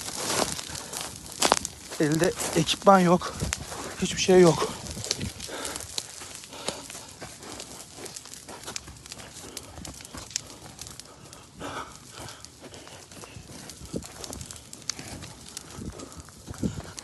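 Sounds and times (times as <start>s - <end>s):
burning undergrowth crackling: 0.0s - 17.0s.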